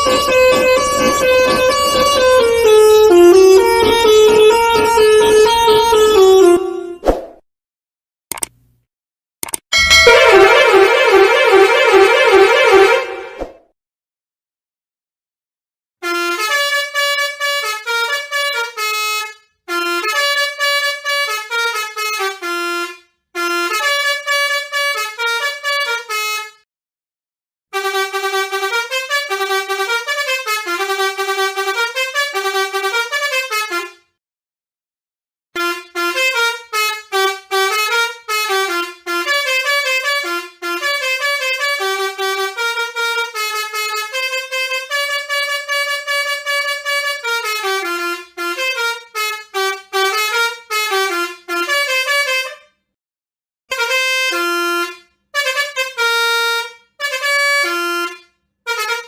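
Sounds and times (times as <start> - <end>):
musical bus air horns: 0.0 - 7.0, 9.8 - 13.5, 16.0 - 26.6, 27.7 - 34.2, 35.6 - 52.8, 53.7 - 59.0.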